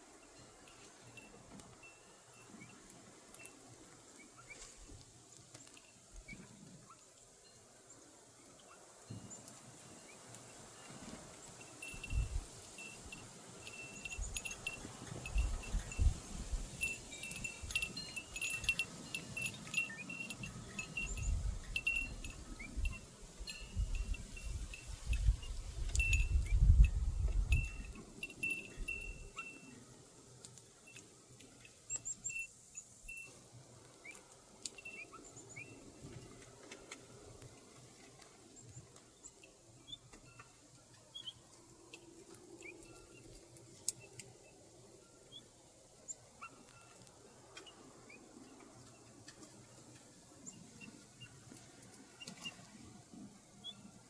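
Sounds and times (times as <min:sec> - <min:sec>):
birds chirping softly: 0:00.0 - 0:54.0.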